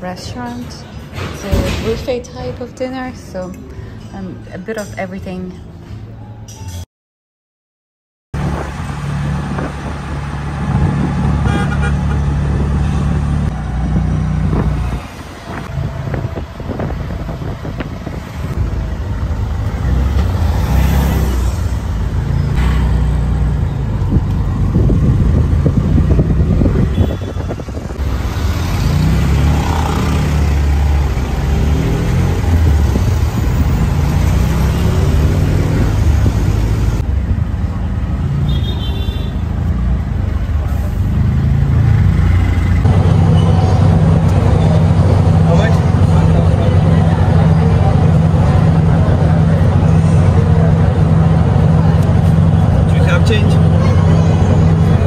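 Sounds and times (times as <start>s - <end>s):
bus and vehicle engines rumbling: 0.0s - 6.9s, 8.4s - 55.0s.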